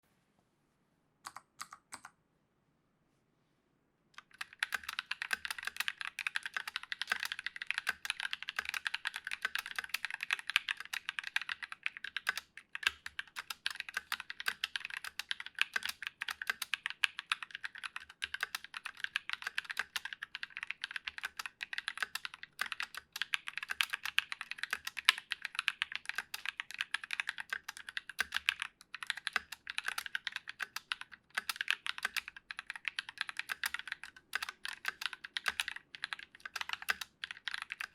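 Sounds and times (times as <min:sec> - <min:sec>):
mechanical keyboard typing: 0:01.3 - 0:02.1, 0:04.2 - 0:37.9.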